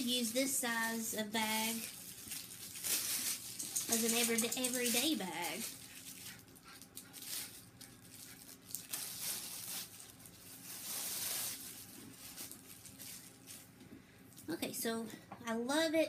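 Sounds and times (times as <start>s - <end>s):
plastic wrap crinkling: 0.0s - 14.5s.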